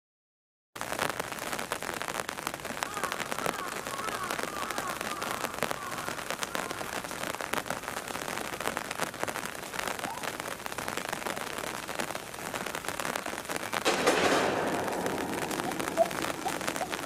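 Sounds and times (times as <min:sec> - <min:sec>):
rain patter: 0:00.8 - 0:17.0.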